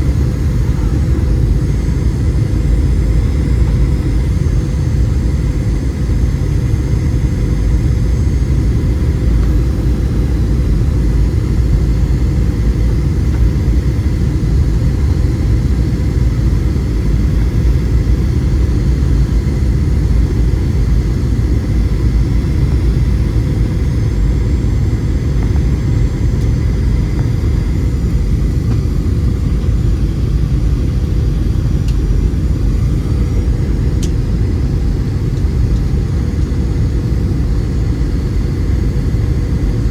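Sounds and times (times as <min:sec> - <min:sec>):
airplane cabin jet engine drone: 0:00.0 - 0:39.9.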